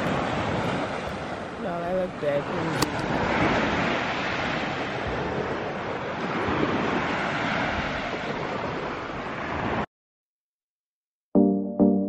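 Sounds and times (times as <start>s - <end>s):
surf washing on beach: 0.0s - 9.9s
wind buffeting microphone: 0.0s - 9.9s.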